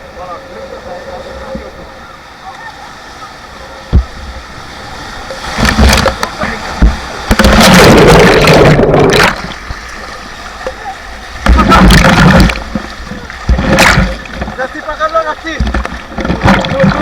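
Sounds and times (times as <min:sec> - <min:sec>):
whitewater crashing and splashing: 0:02.4 - 0:17.0.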